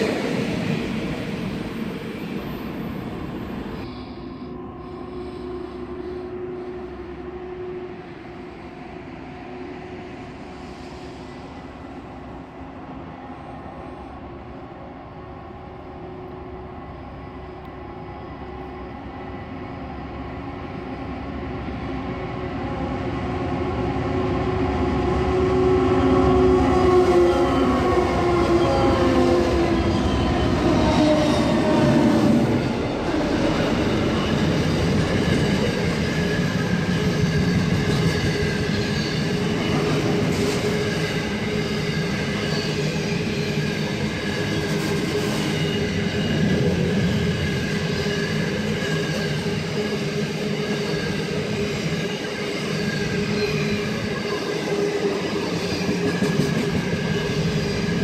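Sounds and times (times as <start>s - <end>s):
diesel locomotive engine passing: 0.0s - 58.0s.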